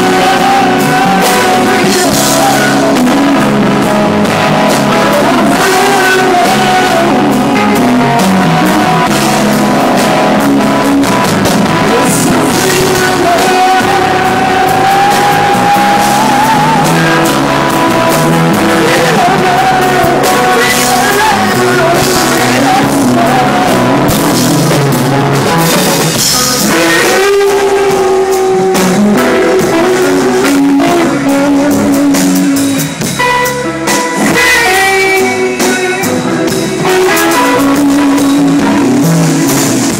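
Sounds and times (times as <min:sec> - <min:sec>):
drum kit: 0:00.0 - 0:39.9
electric guitar: 0:00.0 - 0:39.9
person singing: 0:00.0 - 0:39.9.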